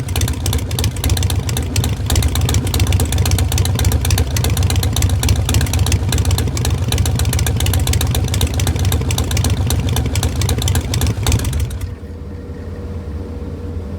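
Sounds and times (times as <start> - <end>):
motorcycle engine exhaust beat: 0.0 - 12.0
low hum: 0.0 - 13.9.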